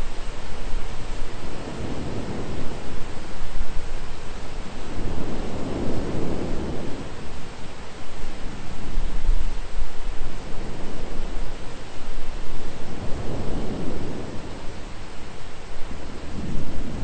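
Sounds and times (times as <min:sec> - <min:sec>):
low thunder rumble: 0:00.0 - 0:17.0
rain hissing: 0:00.0 - 0:17.0.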